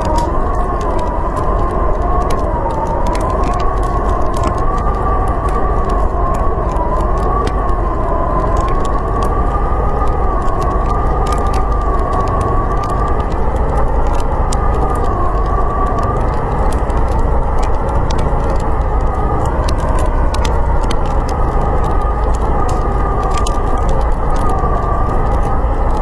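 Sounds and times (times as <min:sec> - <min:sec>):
fire crackling and popping: 0:00.0 - 0:26.0
wind howling and whistling: 0:00.0 - 0:26.0.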